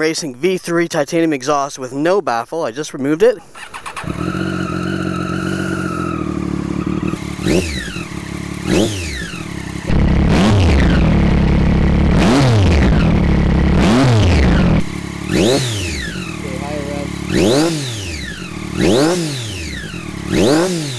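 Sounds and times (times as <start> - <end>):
motorcycle engine revving: 3.6 - 20.9
engine idling: 3.8 - 20.9.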